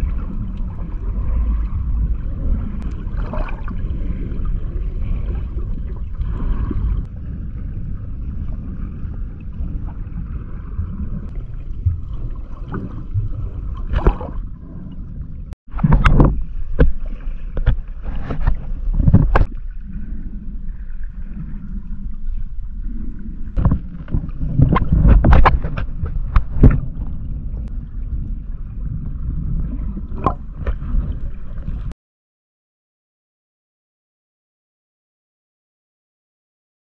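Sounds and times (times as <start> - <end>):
muffled underwater rush: 0.0 - 31.9
water splashing and bubbling: 0.0 - 31.9.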